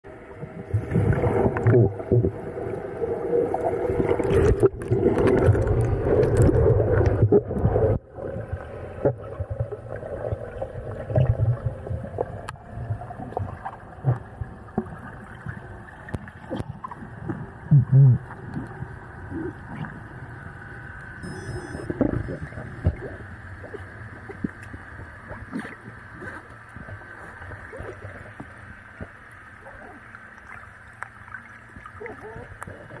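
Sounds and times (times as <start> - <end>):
muffled underwater rushing water: 0.1 - 33.0.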